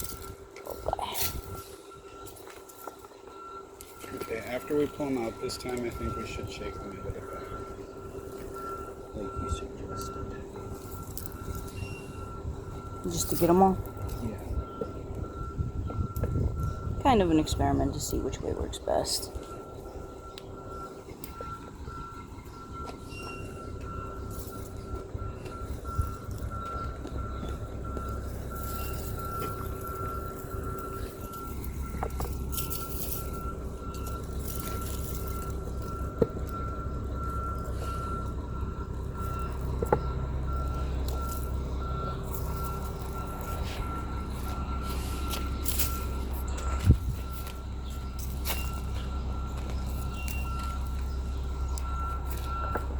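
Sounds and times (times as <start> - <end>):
low engine rumble: 0.0 - 52.9
reversing alarm beeping: 0.0 - 52.9.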